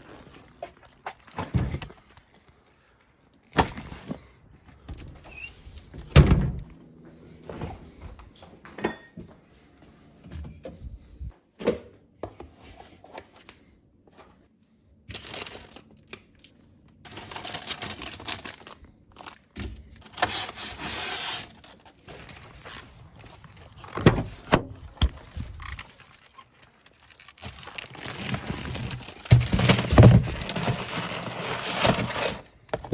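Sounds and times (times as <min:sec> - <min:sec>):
rustling and crinkling: 0:00.0 - 0:08.6, 0:15.1 - 0:32.9.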